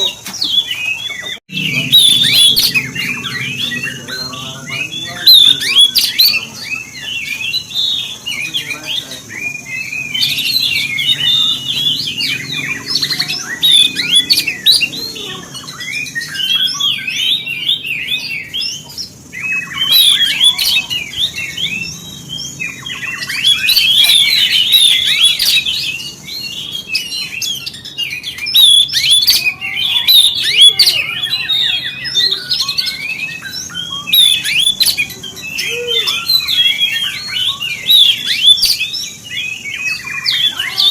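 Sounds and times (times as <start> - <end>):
bird singing chirps and whistles: 0.0 - 40.9.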